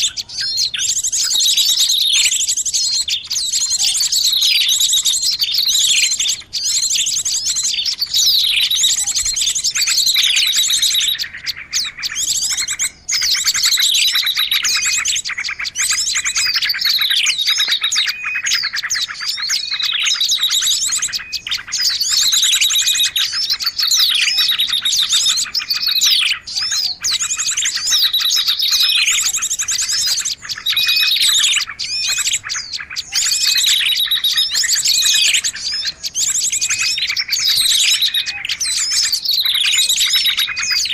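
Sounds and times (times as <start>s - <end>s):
songbirds chattering: 0.0s - 40.9s.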